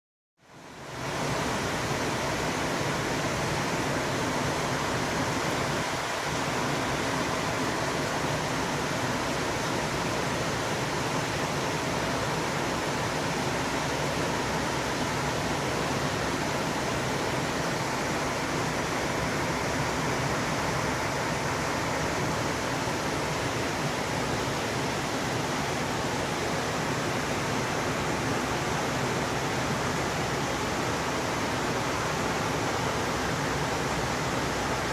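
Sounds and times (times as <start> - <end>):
heavy rain pouring: 0.7 - 34.9.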